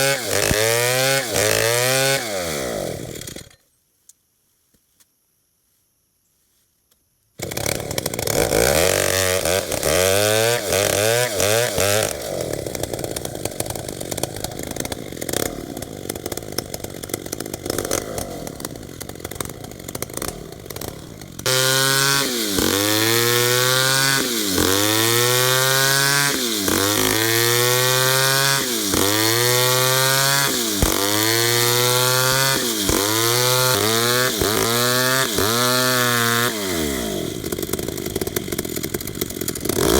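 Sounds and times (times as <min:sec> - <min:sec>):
chainsaw cutting wood: 0:00.0 - 0:03.6, 0:07.4 - 0:39.9.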